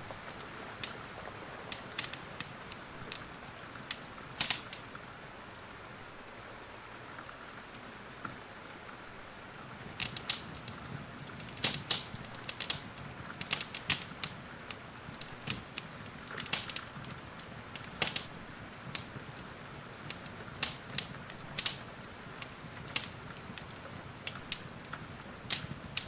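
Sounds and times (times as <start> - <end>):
wood fire crackling: 0.0 - 5.2, 9.3 - 26.0
rain hiss: 0.0 - 26.0.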